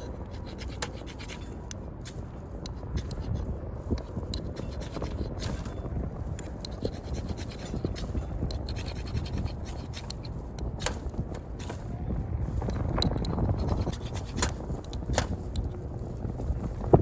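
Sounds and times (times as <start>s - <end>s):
sharp clicks and scratches: 0.0s - 17.0s
wind buffeting microphone: 0.0s - 17.0s.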